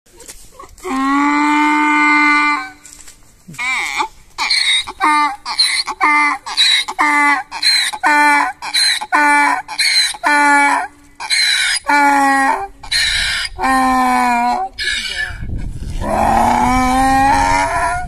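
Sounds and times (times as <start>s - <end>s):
donkey braying: 3.5s - 18.0s.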